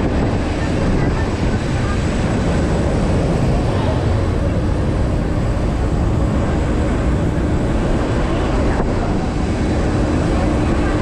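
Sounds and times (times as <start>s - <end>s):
broad rushing noise: 0.0s - 11.0s.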